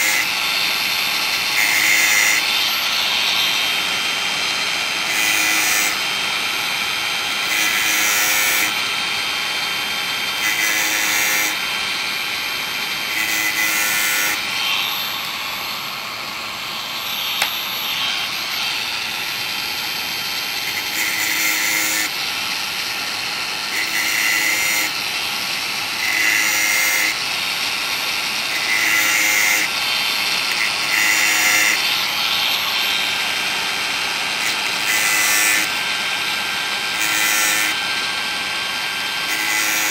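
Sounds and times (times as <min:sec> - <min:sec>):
angle grinder running: 0:00.0 - 0:39.9.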